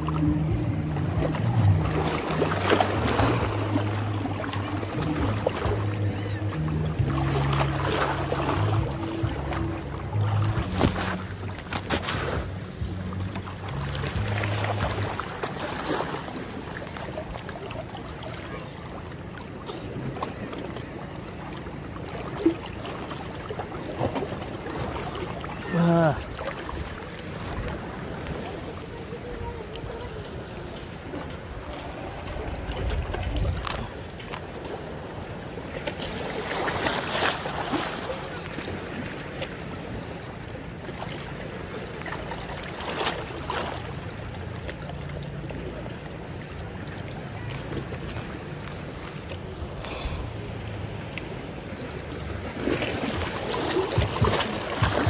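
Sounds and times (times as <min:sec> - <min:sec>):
water splashes: 0:00.0 - 0:55.0
waves lapping against rocks: 0:00.0 - 0:55.0.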